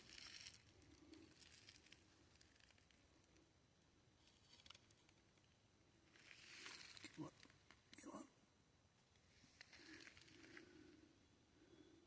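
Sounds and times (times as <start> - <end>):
faint ticks and rustles: 0.0 - 3.5, 4.2 - 8.2, 9.0 - 11.1.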